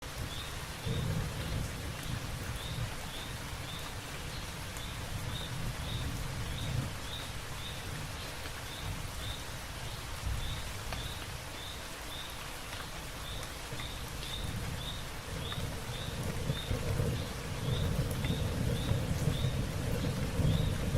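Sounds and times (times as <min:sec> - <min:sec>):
light rain on leaves: 0:00.0 - 0:20.9.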